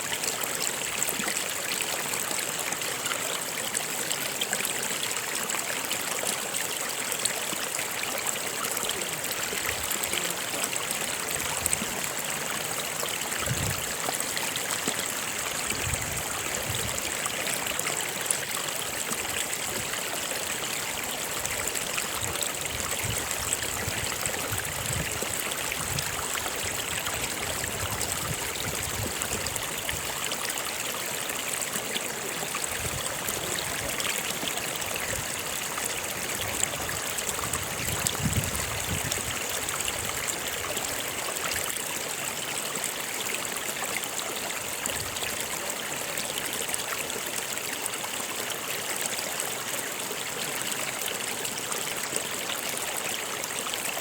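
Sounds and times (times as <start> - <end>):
low water gurgles: 0.0 - 54.0
stream flowing over rocks: 0.0 - 54.0.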